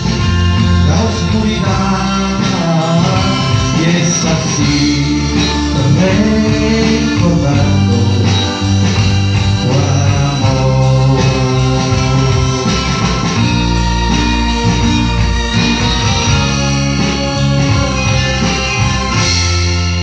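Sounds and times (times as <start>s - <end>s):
keyboard chords with guitar: 0.0s - 20.0s.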